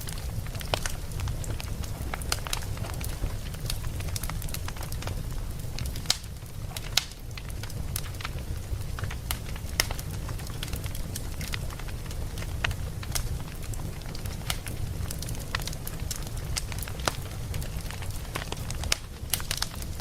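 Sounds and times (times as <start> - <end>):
fire crackling and snapping: 0.0 - 20.0
flames rumbling: 0.0 - 20.0
sharp fire pops: 0.0 - 20.0.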